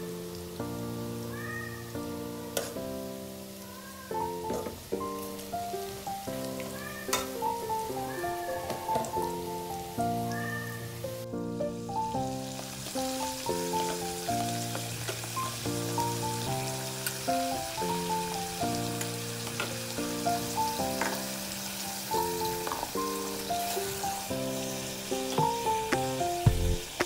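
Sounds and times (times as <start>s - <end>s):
meat and onions sizzling: 0.0s - 27.0s.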